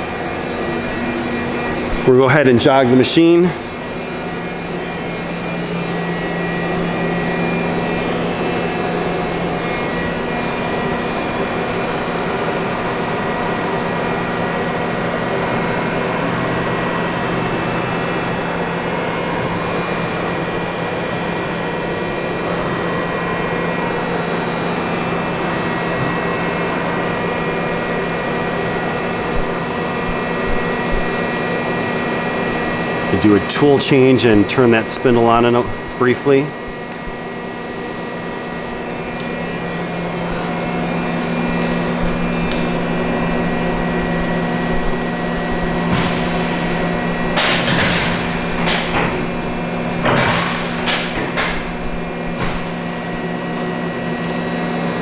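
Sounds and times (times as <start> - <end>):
machine hum: 0.0 - 55.0.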